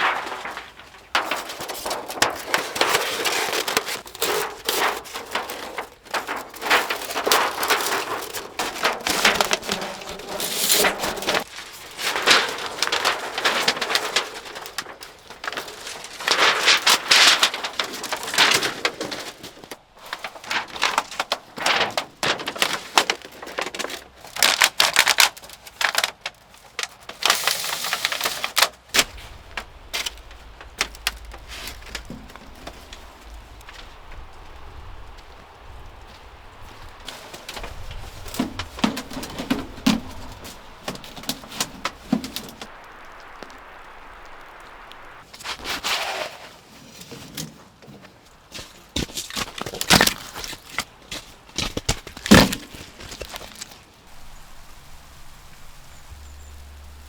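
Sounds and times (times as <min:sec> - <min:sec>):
rustle: 0:00.0 - 0:57.0.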